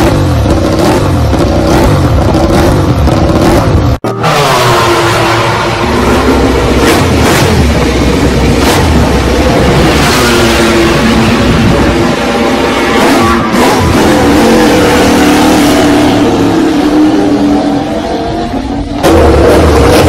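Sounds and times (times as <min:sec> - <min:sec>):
louder engine running: 0:00.0 - 0:20.0
motorcycle engine revving: 0:00.0 - 0:20.0.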